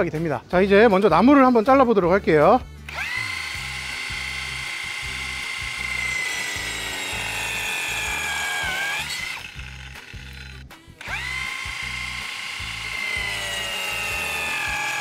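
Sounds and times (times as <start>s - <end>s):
drill-driven saw blade whining: 2.9s - 15.0s.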